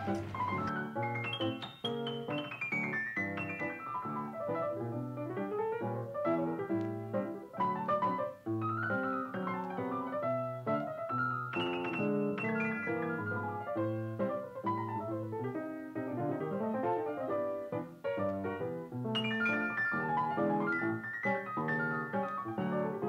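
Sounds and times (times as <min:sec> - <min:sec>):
gentle piano music: 0:00.0 - 0:23.0.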